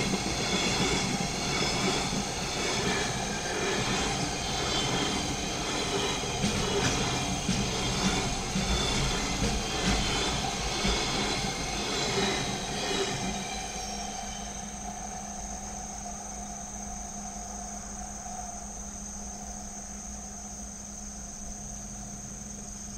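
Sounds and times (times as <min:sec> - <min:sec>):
freight train rumbling: 0:00.0 - 0:20.0
crickets chirring: 0:00.0 - 0:22.9.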